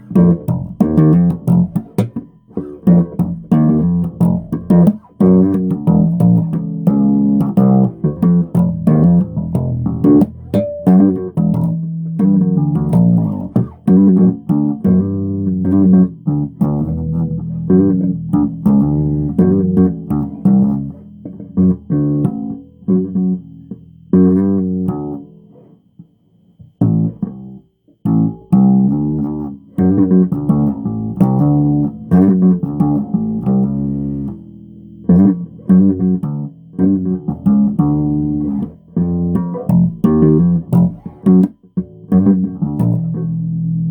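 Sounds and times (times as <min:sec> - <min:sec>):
solo bass guitar plucked: 0:00.0 - 0:43.9.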